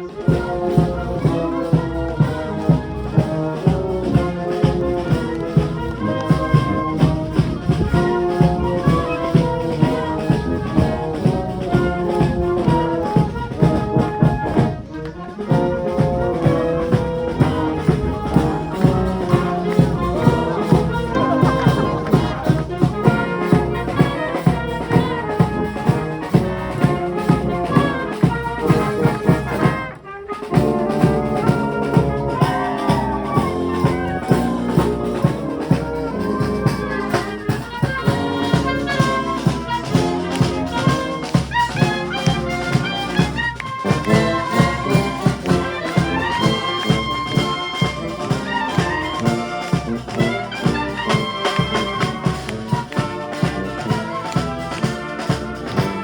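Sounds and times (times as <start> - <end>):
steady drum beat: 0.0 - 56.0
trumpets and trombones: 0.0 - 56.0
wind band playing: 0.0 - 56.0.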